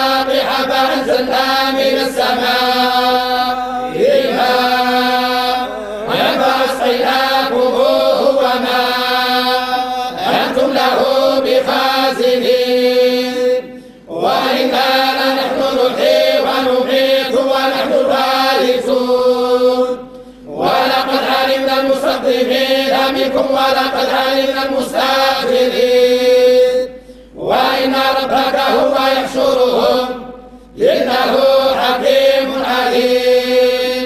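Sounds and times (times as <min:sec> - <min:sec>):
men chanting in unison: 0:00.0 - 0:34.0.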